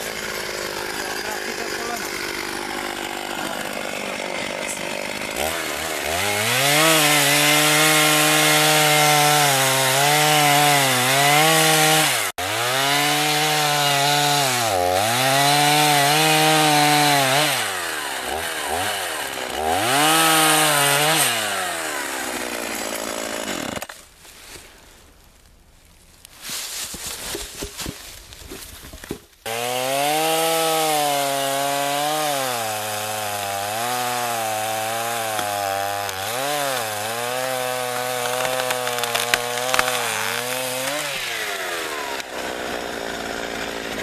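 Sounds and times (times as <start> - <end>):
chainsaw cutting into tree trunk: 0.0 - 24.2, 26.8 - 44.0.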